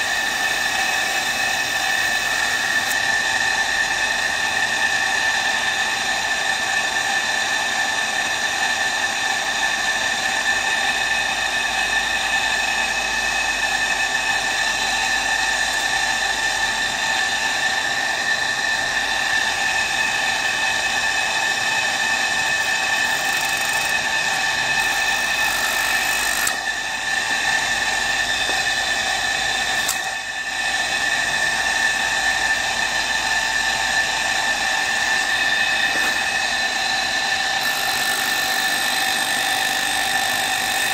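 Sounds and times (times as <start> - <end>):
electric motor high whine: 0.0 - 40.9.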